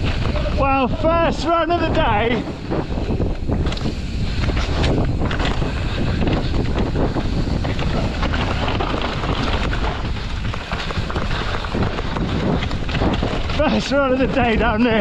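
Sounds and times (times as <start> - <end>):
bike knocks and rattles: 0.0 - 15.0
bike tyre noise on dirt: 0.0 - 15.0
wind buffeting microphone: 0.0 - 15.0.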